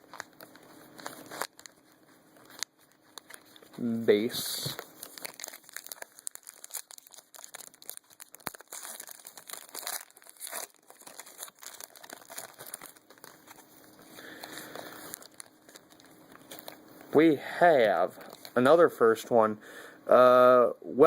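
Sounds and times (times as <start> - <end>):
trading cards rustling: 0.0 - 18.8.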